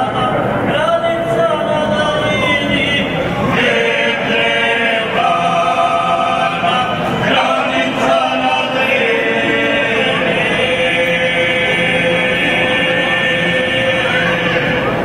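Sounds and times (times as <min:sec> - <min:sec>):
group singing unaccompanied: 0:00.0 - 0:15.0.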